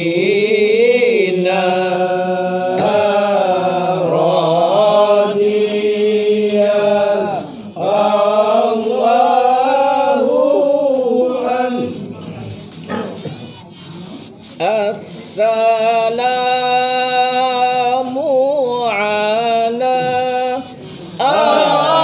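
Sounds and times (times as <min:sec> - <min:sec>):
men chanting: 0:00.0 - 0:12.2, 0:14.6 - 0:22.0.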